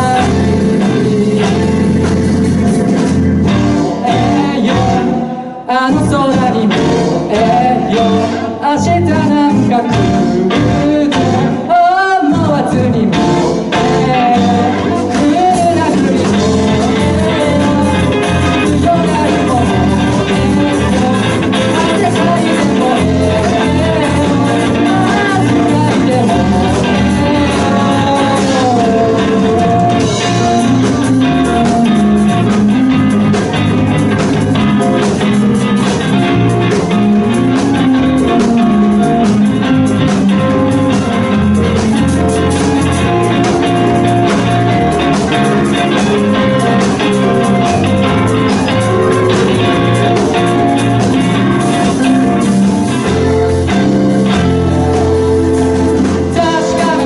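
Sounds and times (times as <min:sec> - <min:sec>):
live band playing pop song: 0:00.0 - 0:57.0.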